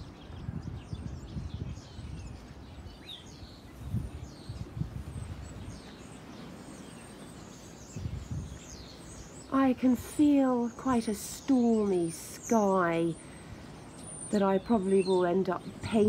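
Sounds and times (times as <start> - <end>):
gusty wind on microphone: 0.0 - 16.0
small birds chirping: 0.0 - 16.0.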